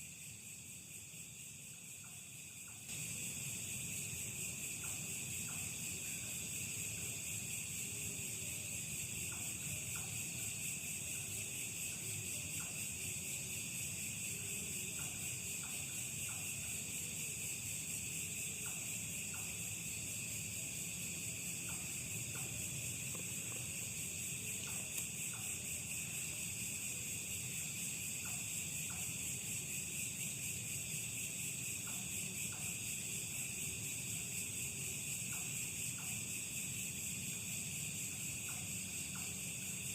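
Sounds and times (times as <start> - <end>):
crickets chirping chorus: 0.0 - 39.9.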